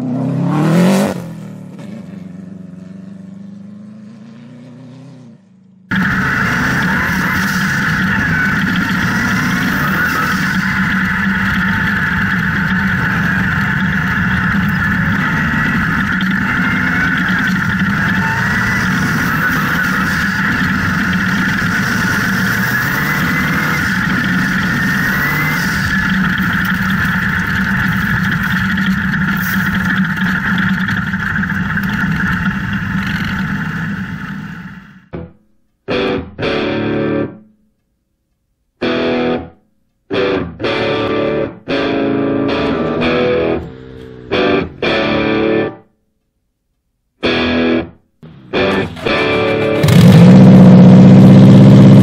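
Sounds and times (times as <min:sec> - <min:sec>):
buggy engine and tyre noise: 0:00.0 - 0:35.1, 0:42.5 - 0:45.6, 0:48.2 - 0:52.0
distorted electric guitar chords: 0:05.9 - 0:37.6, 0:38.8 - 0:45.9, 0:47.2 - 0:52.0.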